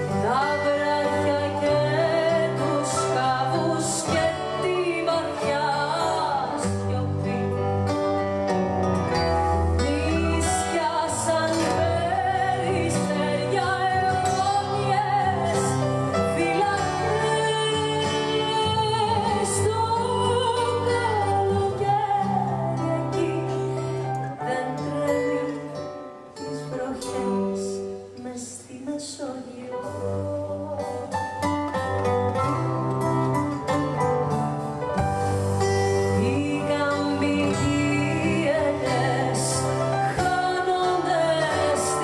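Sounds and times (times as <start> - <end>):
woman singing into microphone: 0.0 - 8.4, 9.1 - 34.4, 35.0 - 42.0
band with acoustic guitar: 0.0 - 42.0.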